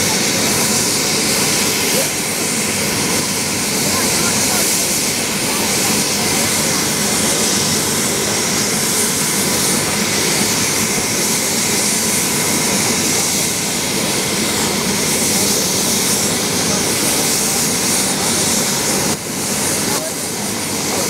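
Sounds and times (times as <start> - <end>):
helicopter engine and rotor: 0.0 - 21.0
high turbine whine: 0.0 - 21.0.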